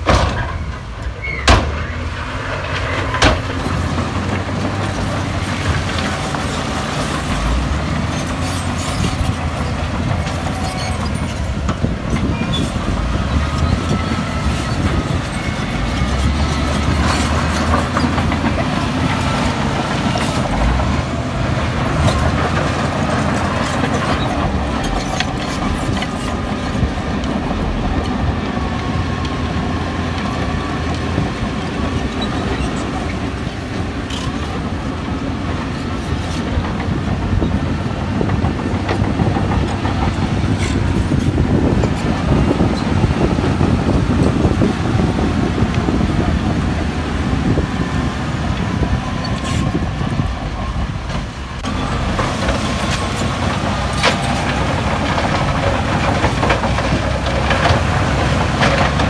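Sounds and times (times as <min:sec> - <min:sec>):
diesel earthmoving machines running: 0:00.0 - 0:59.0
steel crawler tracks clattering: 0:00.0 - 0:59.0.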